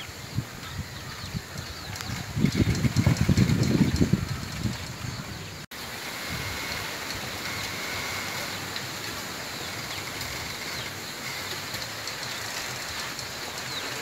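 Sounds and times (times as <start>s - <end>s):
wind rumble on microphone: 0.0s - 11.4s
wind rustling bamboo leaves: 0.0s - 14.0s.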